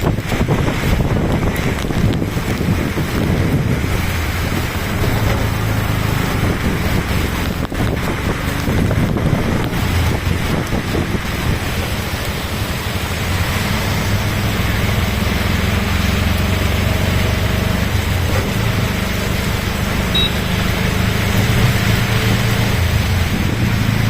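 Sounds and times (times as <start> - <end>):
heavy rain hissing: 0.0 - 24.0
road traffic hum: 0.0 - 24.0.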